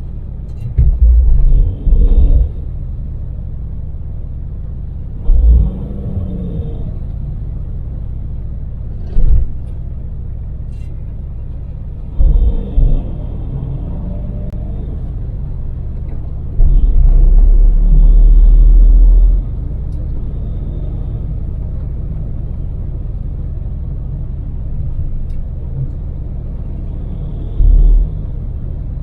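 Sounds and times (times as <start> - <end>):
loud deep rumble: 0.0 - 29.0
van engine and road rumble: 0.0 - 29.0.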